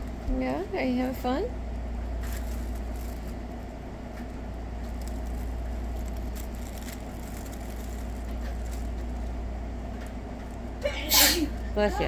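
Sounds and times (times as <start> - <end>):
fabric tunnel rustling: 0.0 - 12.0
steady low hum: 0.0 - 12.0.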